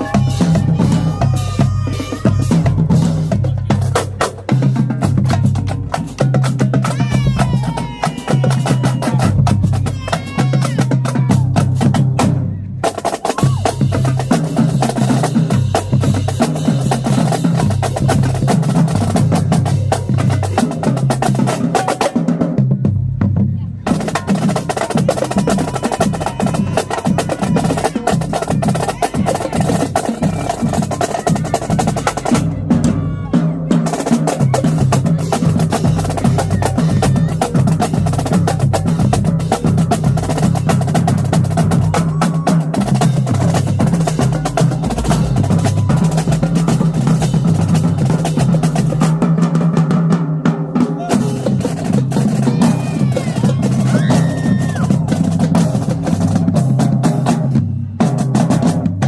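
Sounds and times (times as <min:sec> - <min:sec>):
tenor and bass drums: 0:00.0 - 0:59.0.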